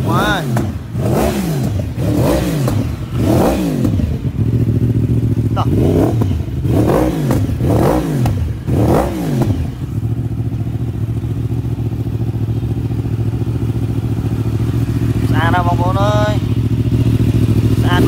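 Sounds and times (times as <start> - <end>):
motorcycle engine revving and idling: 0.0 - 18.0.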